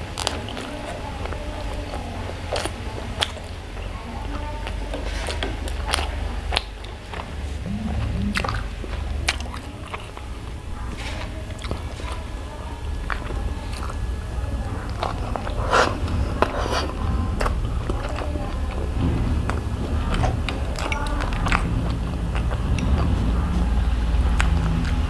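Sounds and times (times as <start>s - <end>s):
chewing and biting food: 0.0s - 25.0s
steady low hum: 0.0s - 25.0s.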